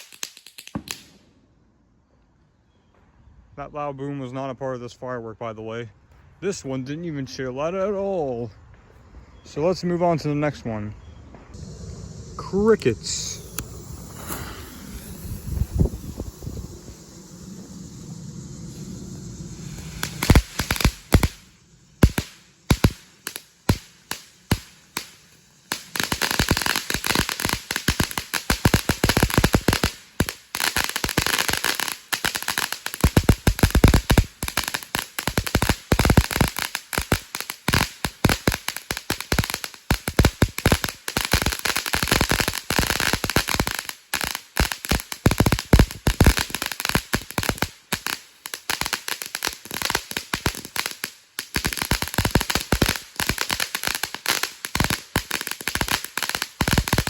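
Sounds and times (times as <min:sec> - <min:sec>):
firework bangs and crackle: 0:00.0 - 0:01.3, 0:11.3 - 0:57.0.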